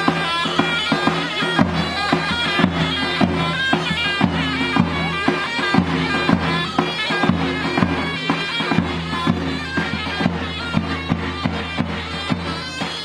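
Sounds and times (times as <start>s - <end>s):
drum beat: 0.0s - 13.0s
reedy wind instrument melody: 0.0s - 13.0s.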